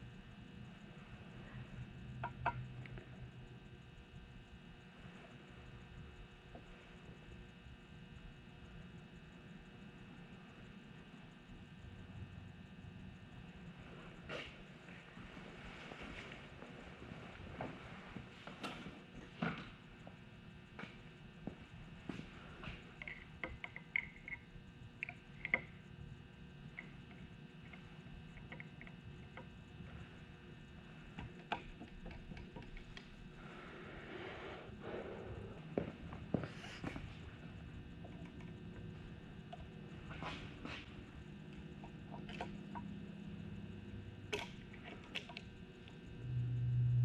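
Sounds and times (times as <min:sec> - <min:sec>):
loud steady low hum: 0:00.0 - 0:47.0.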